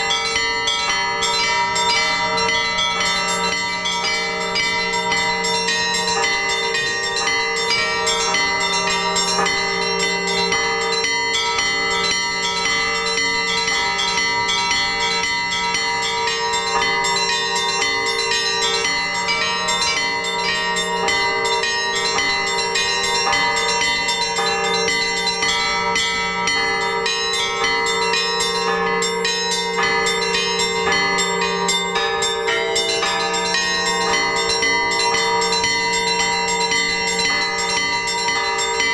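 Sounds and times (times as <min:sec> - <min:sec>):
larger bells tolling: 0:00.0 - 0:38.9
small bells chiming: 0:00.0 - 0:38.9.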